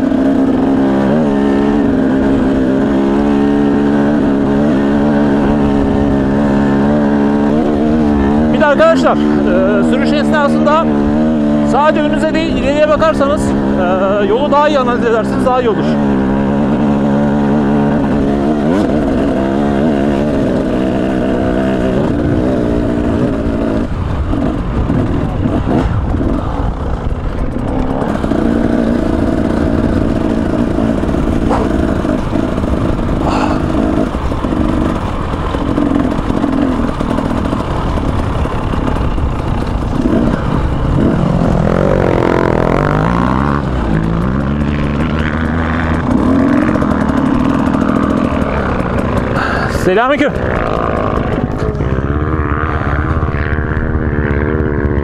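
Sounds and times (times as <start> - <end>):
two-stroke motorbike engine revving: 0.0 - 55.0.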